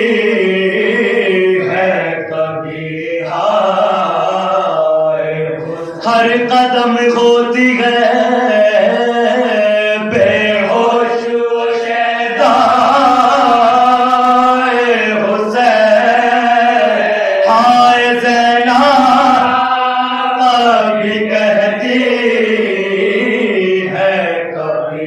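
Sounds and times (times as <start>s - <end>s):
men chanting: 0.0s - 25.0s.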